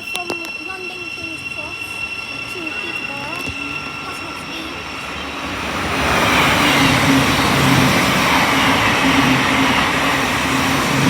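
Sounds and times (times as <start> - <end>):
train wheels rushing on rail: 0.0 - 11.0.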